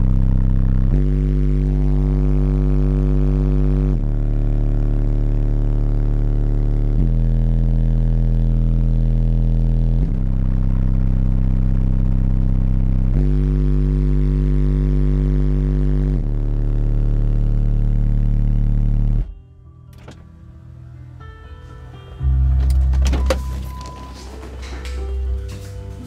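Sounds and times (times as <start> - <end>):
loud bass-heavy music in car: 0.0 - 26.0.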